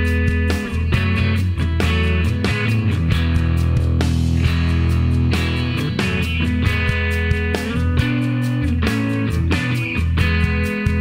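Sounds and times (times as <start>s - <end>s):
instrumental music with guitar: 0.0s - 11.0s.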